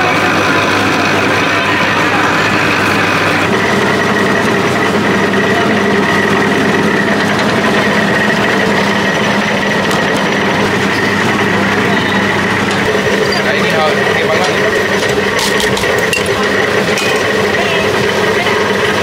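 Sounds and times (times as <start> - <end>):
market crowd chatter: 0.0 - 19.0
steady machine hum: 0.0 - 19.0.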